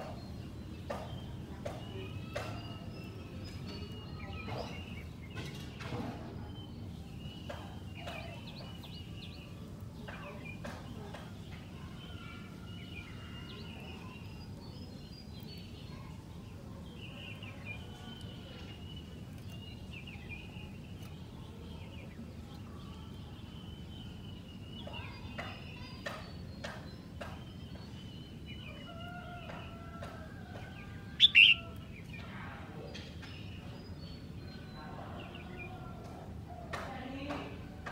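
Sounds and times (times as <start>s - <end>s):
bird singing warbled phrases: 0.0s - 37.9s.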